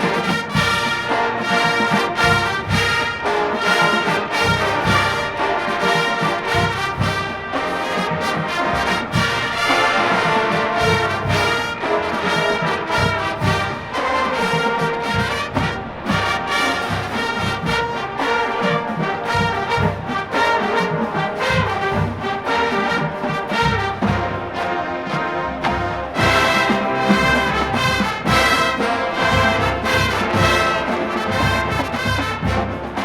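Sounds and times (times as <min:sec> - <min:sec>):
brass chords: 0:00.0 - 0:33.0
drumline beat: 0:00.0 - 0:33.0.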